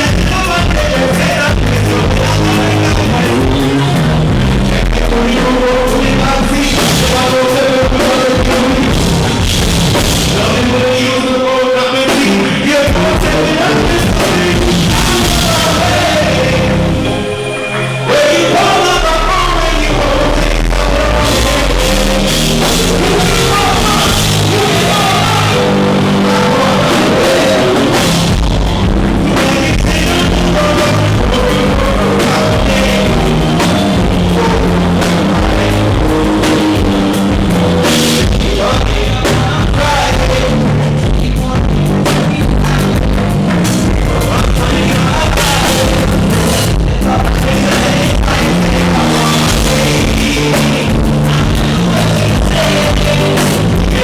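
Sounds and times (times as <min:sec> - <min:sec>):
drum kit hits: 0:00.0 - 0:17.3, 0:18.2 - 0:54.0
bass notes: 0:00.0 - 0:54.0
keyboard notes: 0:00.0 - 0:54.0
loud live rock band: 0:00.0 - 0:54.0.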